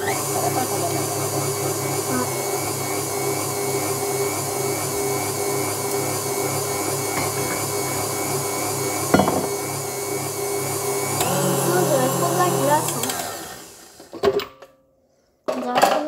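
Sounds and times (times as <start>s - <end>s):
electric mixer running: 0.0s - 14.2s.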